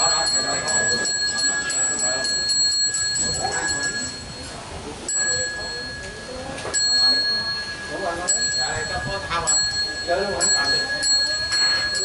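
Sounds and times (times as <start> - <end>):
ritual bell ringing: 0.0 - 12.0.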